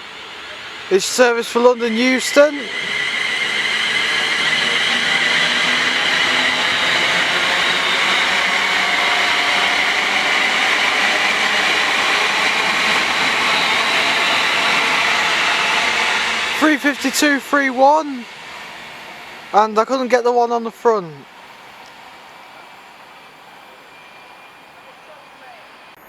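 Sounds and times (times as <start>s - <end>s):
train running noise: 0.0s - 26.0s.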